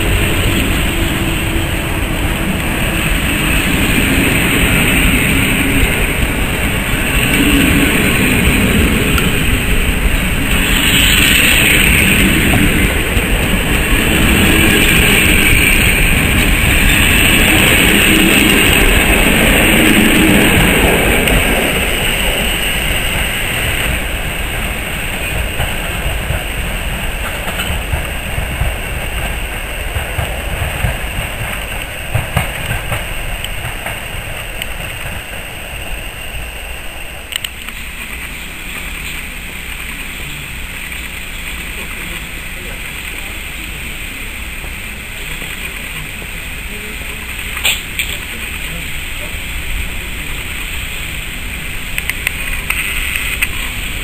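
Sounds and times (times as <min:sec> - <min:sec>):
train coaches running on rails: 0:00.0 - 0:54.0
train wheel clicks: 0:00.0 - 0:54.0.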